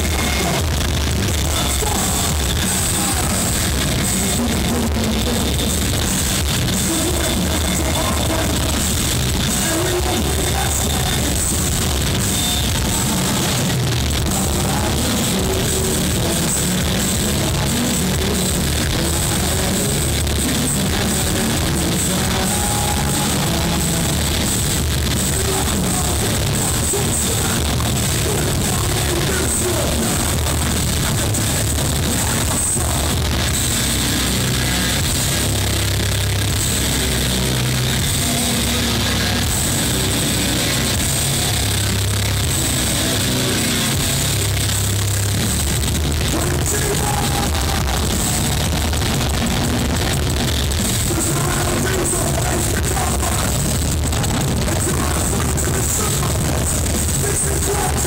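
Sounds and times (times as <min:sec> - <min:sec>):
live heavy metal band: 0:00.0 - 0:58.0.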